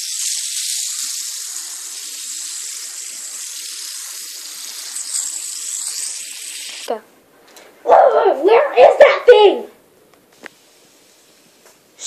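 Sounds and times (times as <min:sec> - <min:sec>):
steady hiss: 0:00.0 - 0:07.8, 0:08.4 - 0:12.0.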